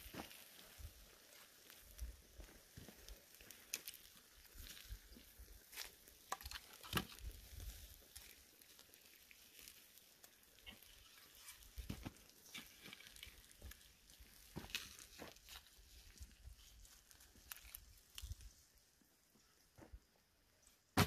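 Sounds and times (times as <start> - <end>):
log knocking in hot coals: 0.0 - 18.6, 20.8 - 21.0.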